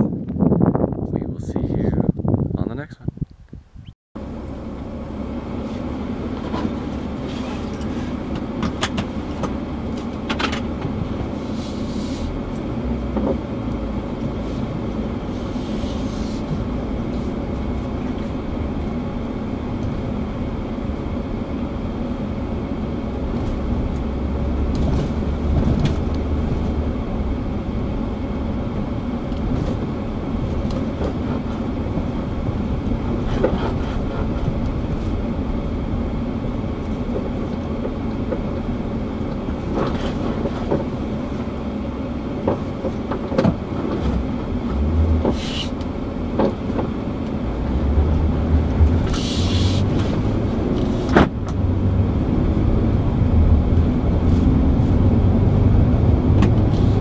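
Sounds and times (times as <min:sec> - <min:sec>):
truck engine and road rumble: 0:00.0 - 0:57.0
knocks and rattles over ruts: 0:04.8 - 0:57.0.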